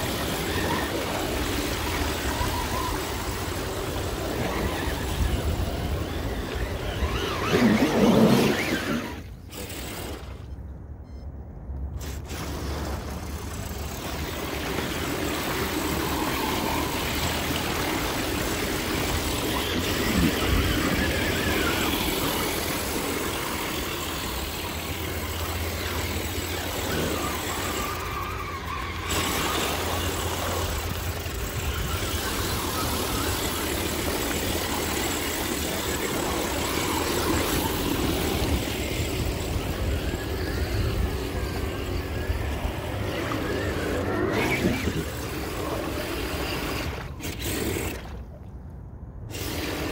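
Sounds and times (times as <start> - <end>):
toy truck electric motors: 0.0 - 10.6, 11.8 - 48.3, 49.2 - 49.9.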